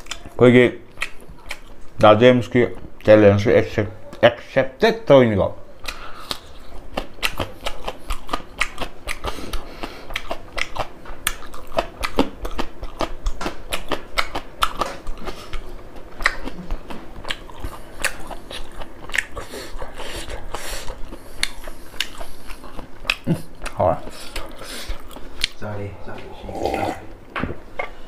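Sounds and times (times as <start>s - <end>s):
man chewing with wet smacks: 0.0s - 3.2s, 5.8s - 25.6s.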